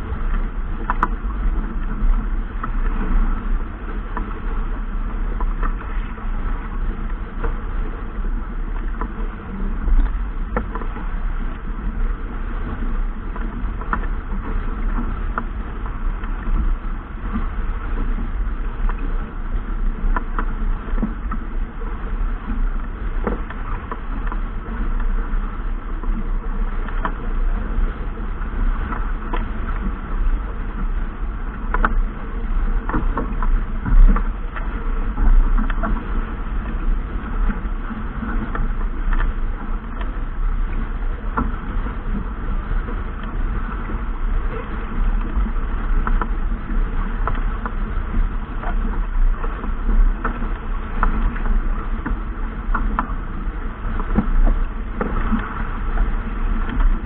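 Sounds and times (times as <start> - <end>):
deep low rumble: 0.0 - 57.0
water noise: 0.0 - 57.0
wind: 0.0 - 57.0.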